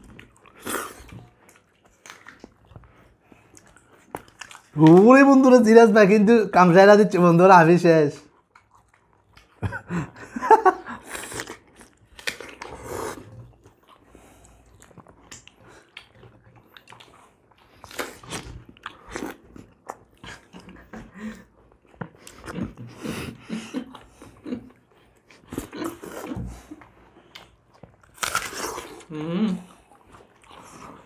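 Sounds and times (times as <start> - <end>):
people biting and chewing mangoes: 0.0 - 5.2, 8.3 - 31.0.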